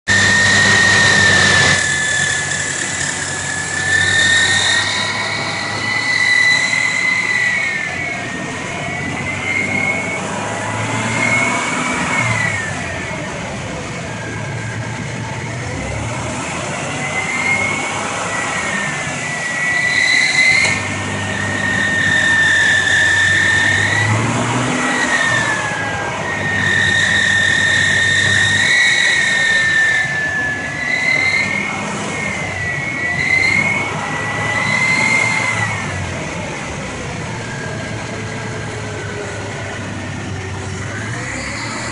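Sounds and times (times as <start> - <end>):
car engine idling and revving: 0.0 - 41.9
high-pitched engine whine: 0.0 - 41.9.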